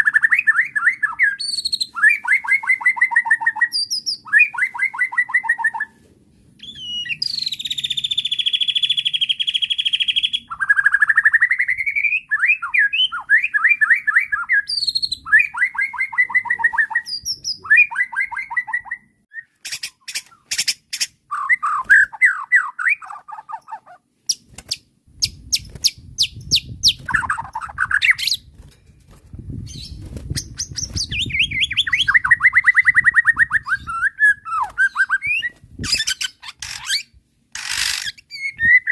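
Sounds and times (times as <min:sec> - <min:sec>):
bird singing varied song: 0:00.0 - 0:06.0, 0:06.6 - 0:28.6, 0:29.5 - 0:38.9.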